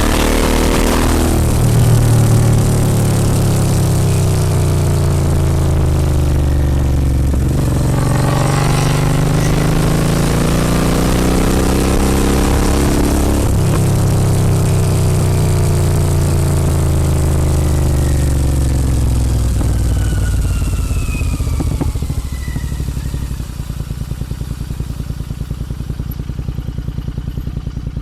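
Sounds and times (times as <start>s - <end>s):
motorcycle engine slowing to idle: 0.0s - 28.0s.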